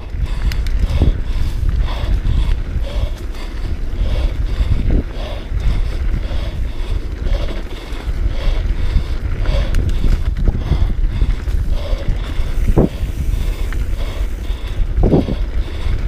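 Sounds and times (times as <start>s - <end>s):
bike rumbling over rough ground: 0.0s - 16.0s
wind buffeting microphone: 0.0s - 16.0s.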